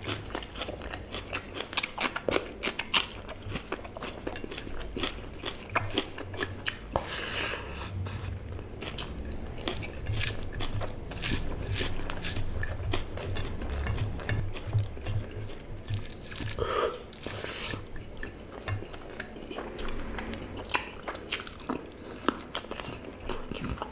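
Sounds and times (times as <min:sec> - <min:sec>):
wet chewing and lip smacks: 0:00.0 - 0:07.1, 0:08.0 - 0:23.9.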